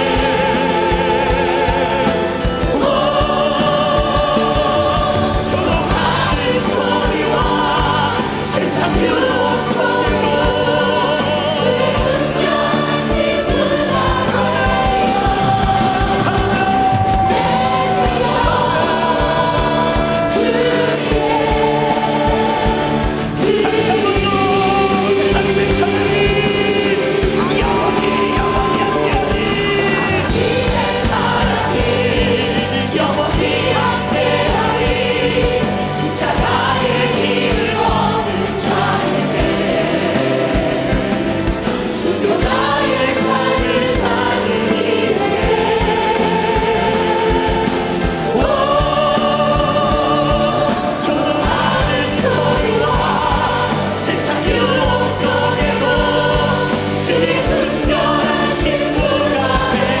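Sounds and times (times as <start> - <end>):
bass notes: 0.0 - 60.0
group singing worship song: 0.0 - 60.0.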